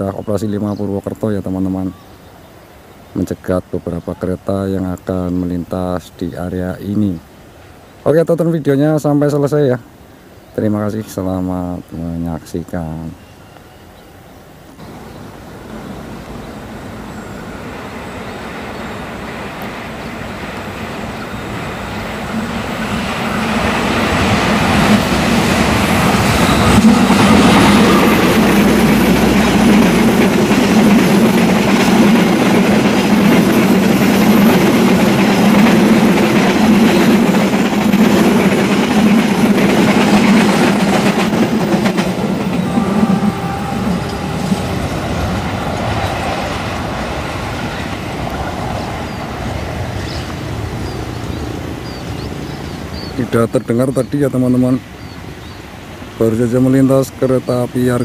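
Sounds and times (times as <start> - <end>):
passenger train passing: 0.0 - 58.0
coaches rolling on rails: 11.0 - 58.0.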